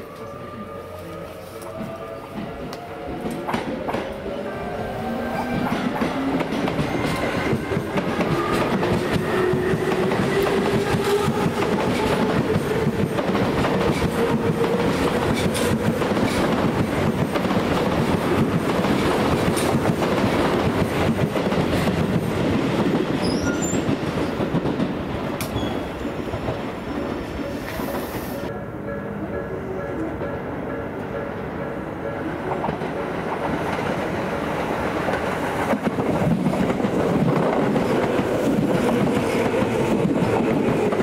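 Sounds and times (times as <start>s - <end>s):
electric train passing: 0.0s - 41.0s.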